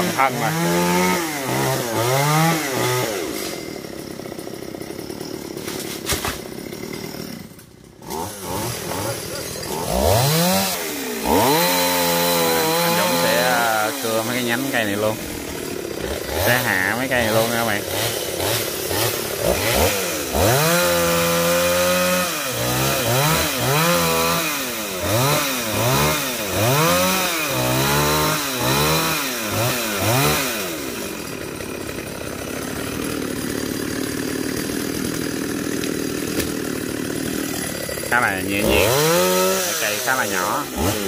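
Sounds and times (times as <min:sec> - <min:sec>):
chainsaw revving: 0:00.0 - 0:41.0.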